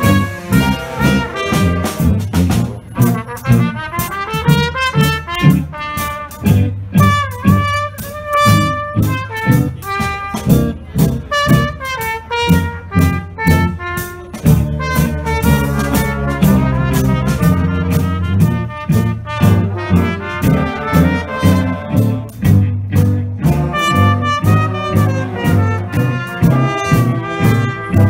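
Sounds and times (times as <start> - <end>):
jazz brass band playing blues: 0.0 - 28.0
trumpets playing melody: 0.0 - 28.0
tuba bass line: 0.0 - 28.0.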